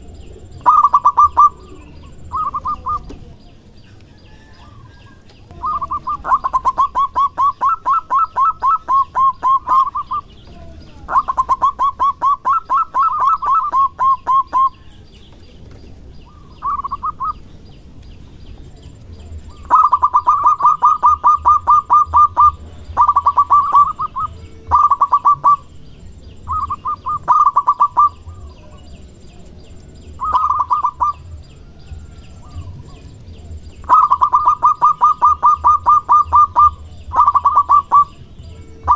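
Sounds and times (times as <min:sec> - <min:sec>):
dove calling in staccato bursts: 0:00.0 - 0:18.6, 0:19.2 - 0:38.9.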